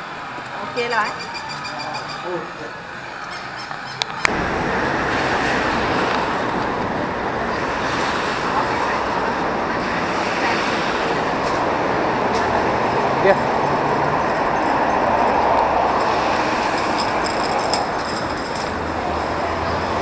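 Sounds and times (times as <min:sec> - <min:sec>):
road traffic rumble and hiss: 0:00.0 - 0:20.0.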